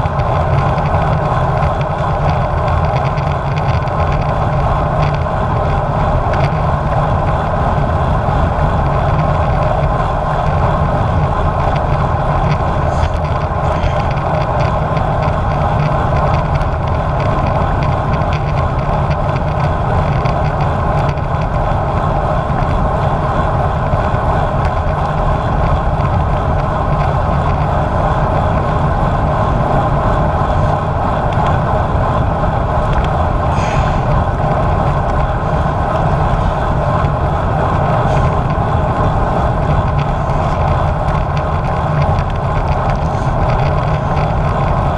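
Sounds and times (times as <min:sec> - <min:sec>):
wind and road noise: 0:00.0 - 0:44.9
wind buffeting microphone: 0:00.0 - 0:44.9.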